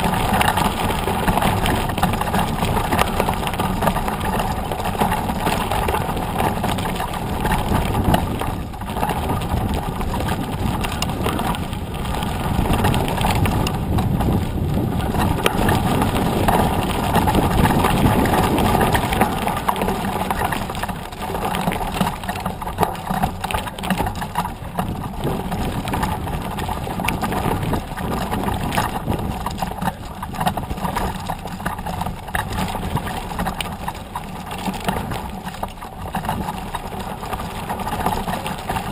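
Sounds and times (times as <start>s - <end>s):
bike tyres rolling over gravel: 0.0s - 38.9s
rattles and clicks from bumps: 0.0s - 38.9s.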